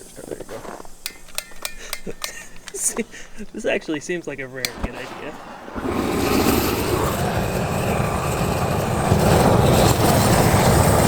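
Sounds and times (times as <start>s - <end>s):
snow blower engine rumbling: 0.0s - 11.0s.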